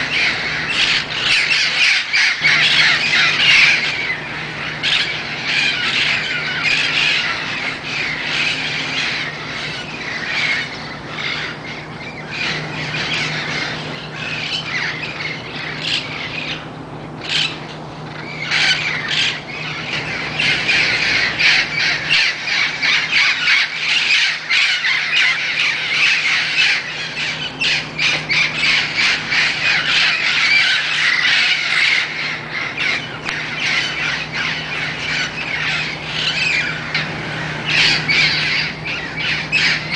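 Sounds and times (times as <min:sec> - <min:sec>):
parrots squawking: 0:00.0 - 0:39.9.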